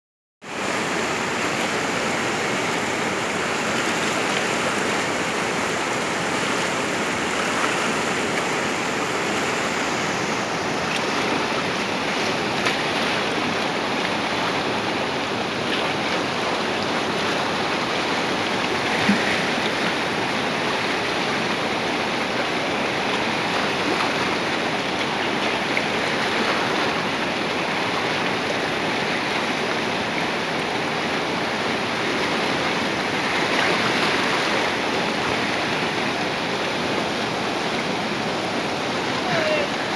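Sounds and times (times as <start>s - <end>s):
whitewater rapids roaring: 0.4s - 39.9s.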